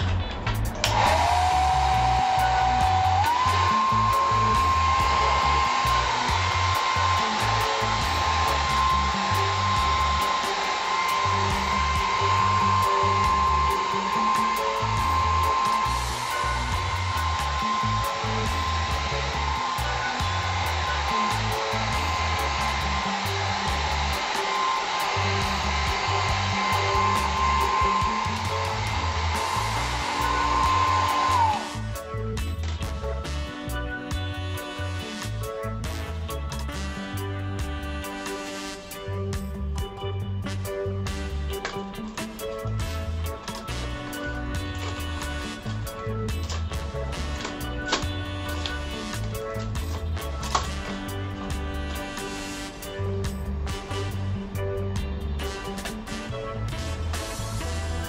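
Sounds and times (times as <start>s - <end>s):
hair dryer blowing: 0.8s - 39.9s, 41.0s - 54.5s, 55.4s - 58.0s.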